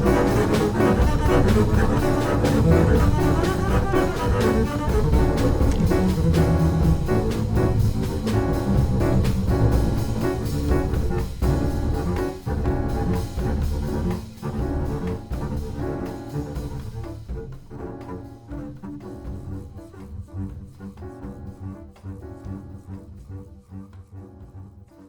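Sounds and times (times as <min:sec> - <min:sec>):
free jazz piano trio: 0:00.0 - 0:25.0.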